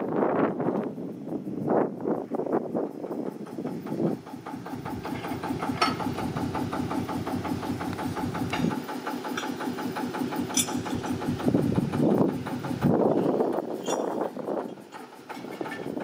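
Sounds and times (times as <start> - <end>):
engine idling: 2.4 - 16.0.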